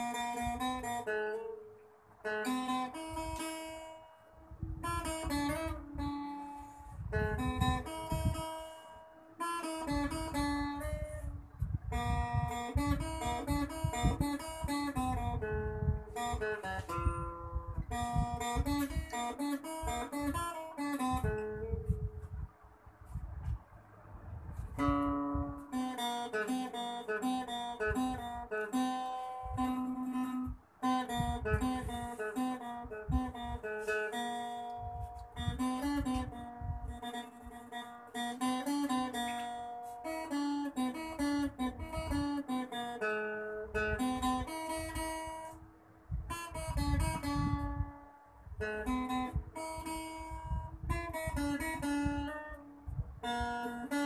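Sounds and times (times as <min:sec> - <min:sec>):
acoustic guitar picking: 0:00.0 - 0:23.7, 0:24.4 - 0:54.0.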